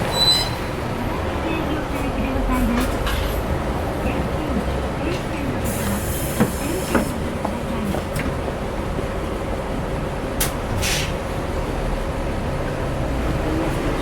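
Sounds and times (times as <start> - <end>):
bus engine idling: 0.0 - 14.0
traffic going past: 0.0 - 14.0.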